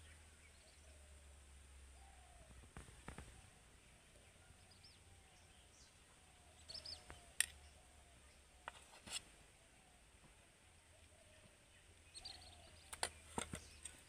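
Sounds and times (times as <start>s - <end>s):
faint small bird chirps: 0.0s - 14.0s.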